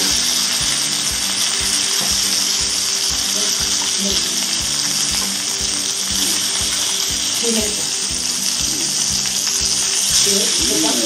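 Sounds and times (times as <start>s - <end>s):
background music with steady beat: 0.0s - 11.0s
meat sizzling in a frying pan: 0.0s - 11.0s.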